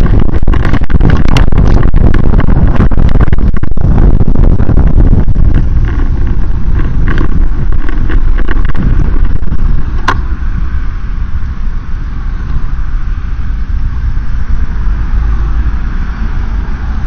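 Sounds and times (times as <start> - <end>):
wind and vehicle travel rumble: 0.0 - 17.0.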